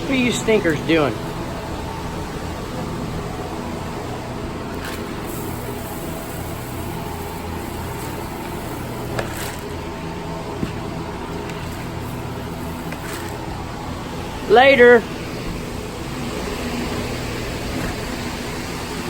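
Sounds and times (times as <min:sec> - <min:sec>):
electric fans humming: 0:00.0 - 0:19.0.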